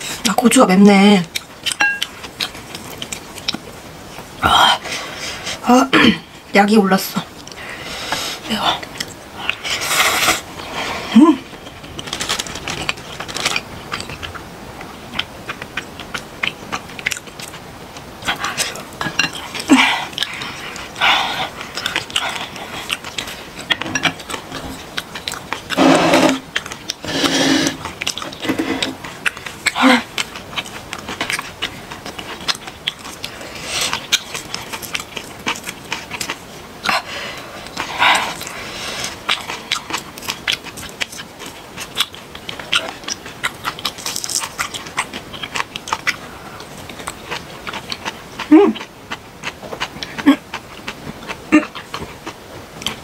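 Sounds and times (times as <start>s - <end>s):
chewing and slurping noodles: 7.5s - 53.0s.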